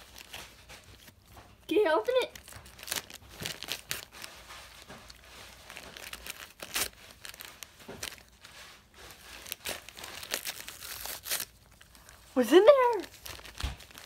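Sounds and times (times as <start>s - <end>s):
dog tearing wrapping paper: 0.0s - 14.0s.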